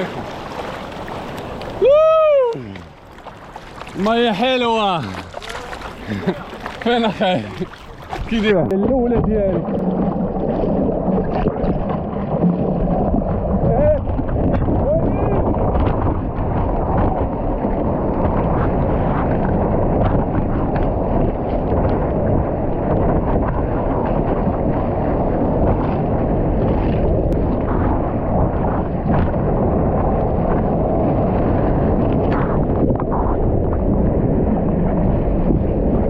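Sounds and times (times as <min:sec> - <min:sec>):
sea water rushing and splashing: 0:00.0 - 0:36.0
wind buffeting microphone: 0:00.0 - 0:36.0.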